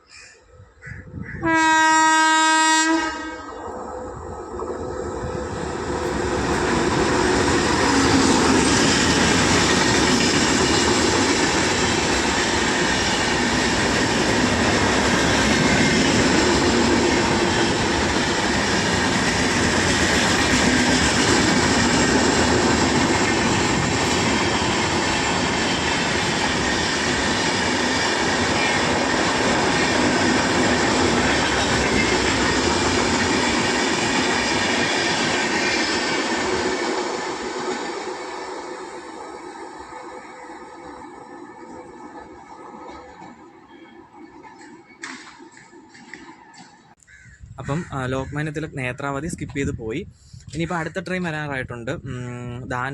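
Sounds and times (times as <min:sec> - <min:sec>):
train wheels on rails: 0:03.6 - 0:47.0.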